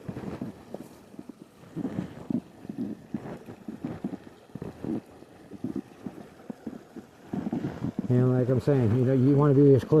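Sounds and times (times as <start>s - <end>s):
footsteps sloshing in river: 0.0s - 10.0s.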